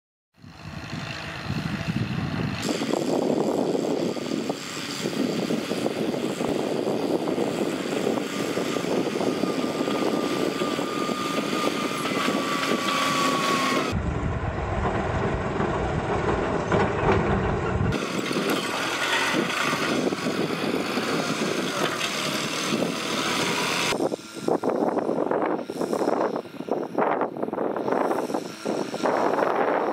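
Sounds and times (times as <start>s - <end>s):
tractor diesel engine under load: 0.4s - 29.8s.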